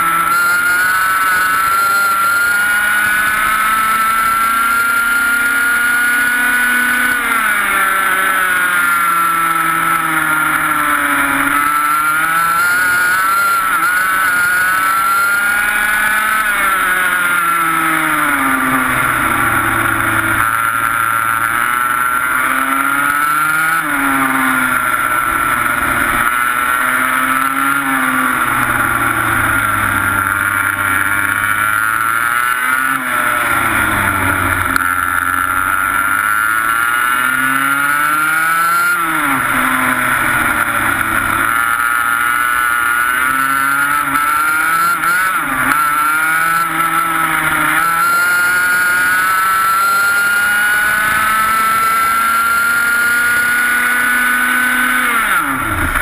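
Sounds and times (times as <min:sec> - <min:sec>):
two-stroke kart engine: 0:00.0 - 0:56.0.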